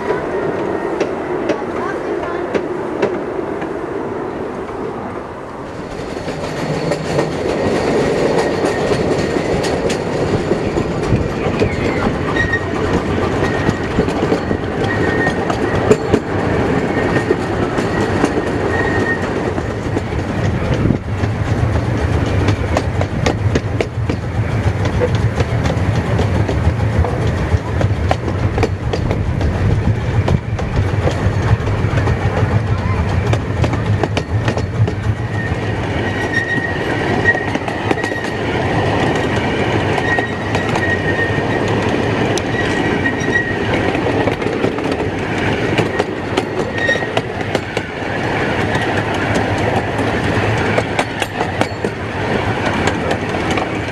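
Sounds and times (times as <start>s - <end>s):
steam train running on track: 0.0s - 53.9s
wheels clicking over rail joints: 5.8s - 53.9s.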